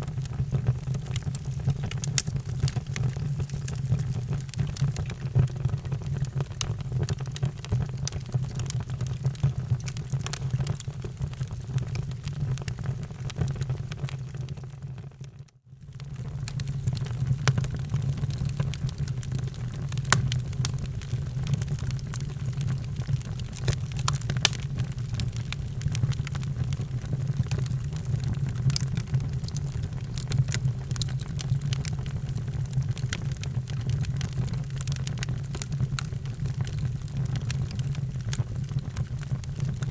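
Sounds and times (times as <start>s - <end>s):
wood fire crackling and popping: 0.0s - 14.6s, 16.0s - 39.9s.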